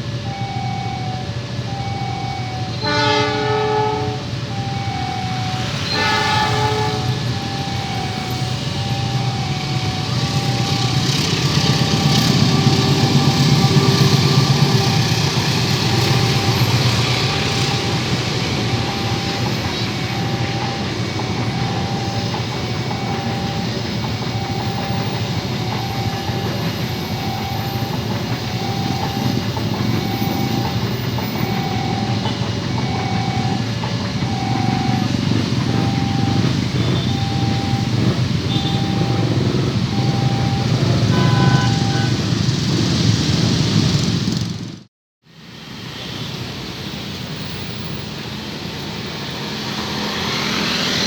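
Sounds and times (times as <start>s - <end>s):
crossing warning siren: 0.0s - 43.3s, 46.9s - 51.0s
train rumbling past: 0.0s - 51.0s.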